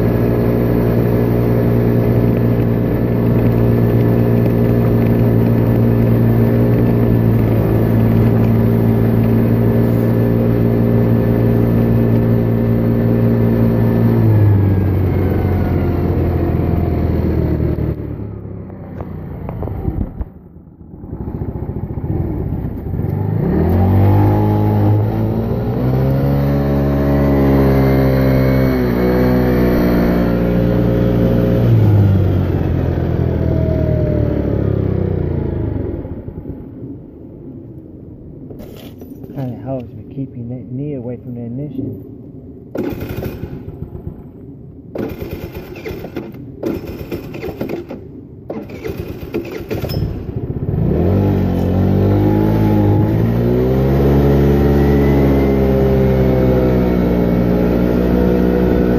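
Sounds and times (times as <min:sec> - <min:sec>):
moped engine revving: 0:00.0 - 0:36.9, 0:42.7 - 0:58.9.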